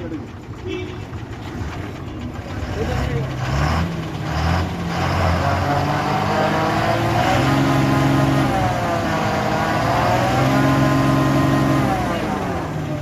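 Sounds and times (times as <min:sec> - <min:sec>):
truck engine running under load: 0:00.0 - 0:13.0.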